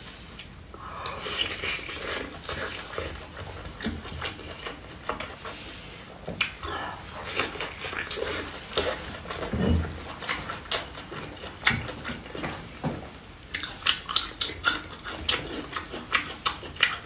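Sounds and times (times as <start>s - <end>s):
wet chewing mouth smacks: 0.4s - 12.6s, 13.5s - 17.0s.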